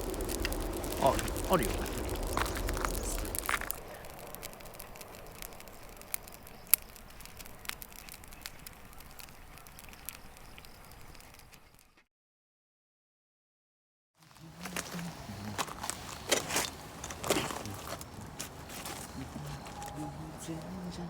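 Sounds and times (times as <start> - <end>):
campfire crackling and popping: 0.0 - 12.0, 14.3 - 20.8.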